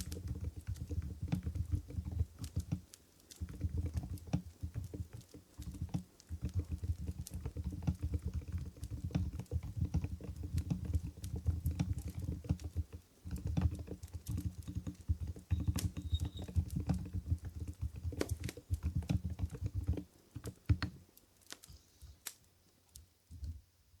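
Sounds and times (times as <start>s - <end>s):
fast keyboard typing: 0.0s - 21.0s.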